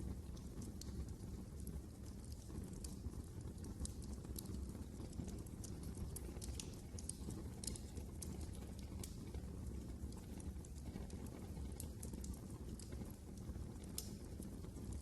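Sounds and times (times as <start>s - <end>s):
fire pops and snaps: 0.0s - 15.0s
low rumble of flames: 0.0s - 15.0s.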